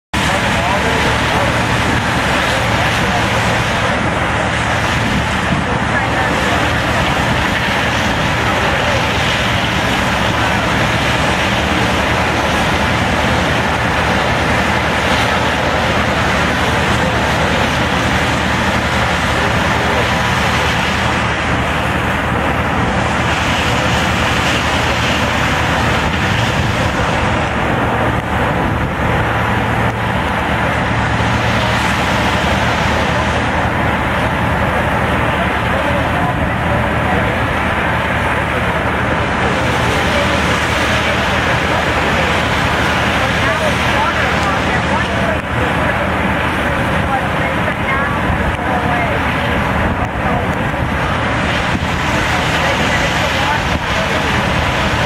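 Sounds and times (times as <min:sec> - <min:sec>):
diesel pump engines droning: 0:00.1 - 0:55.0.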